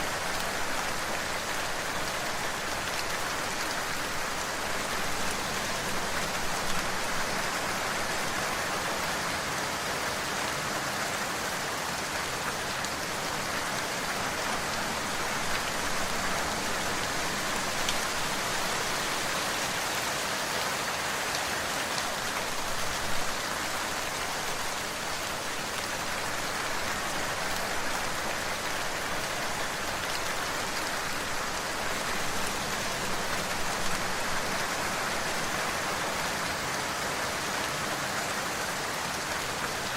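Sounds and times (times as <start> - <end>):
individual raindrops: 0.0 - 39.9
steady rain hiss: 0.0 - 39.9.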